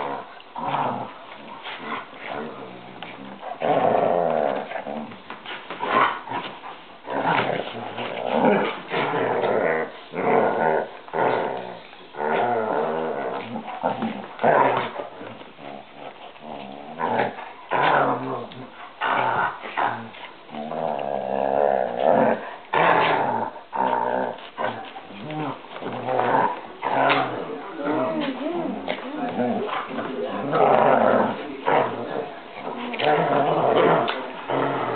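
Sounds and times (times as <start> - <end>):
dogs growling in play: 0.0 - 34.9.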